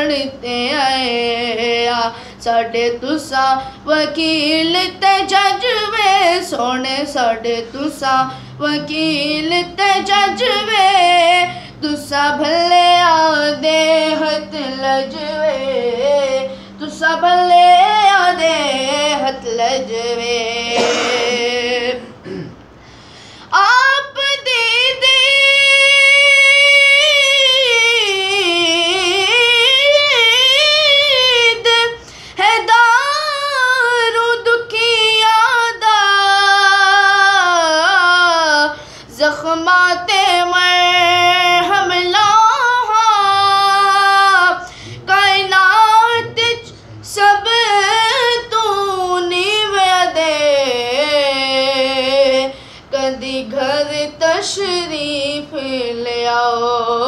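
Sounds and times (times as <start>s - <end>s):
boy singing unaccompanied: 0.0s - 22.2s, 23.5s - 57.0s.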